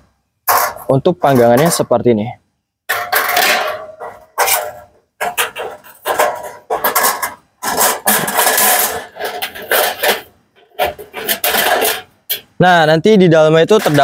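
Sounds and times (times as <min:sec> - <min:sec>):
metal scraping: 0:00.4 - 0:02.0, 0:02.9 - 0:12.6, 0:13.7 - 0:14.0
sheet metal clanking and rattling: 0:00.5 - 0:02.0, 0:02.9 - 0:12.6, 0:13.7 - 0:14.0.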